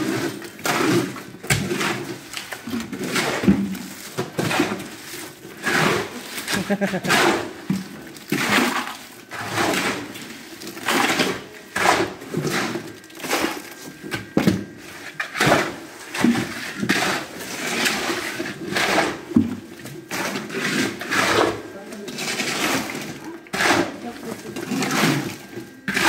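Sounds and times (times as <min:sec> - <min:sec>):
shovels scraping wet concrete: 0:00.0 - 0:26.0.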